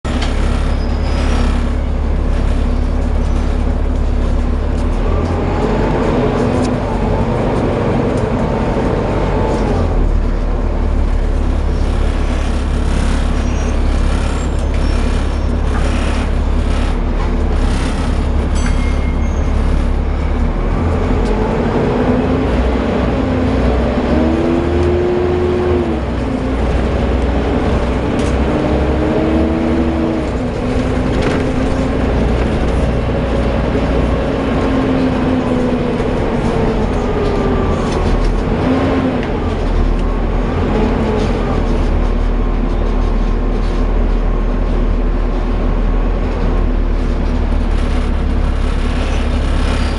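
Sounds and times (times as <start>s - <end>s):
bus diesel engine rumbling: 0.0s - 49.9s.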